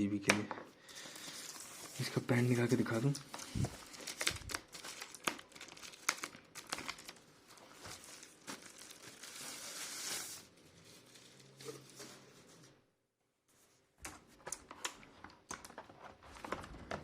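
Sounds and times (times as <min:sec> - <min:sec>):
packaging crinkling and rustling: 0:00.9 - 0:12.8, 0:14.4 - 0:17.0.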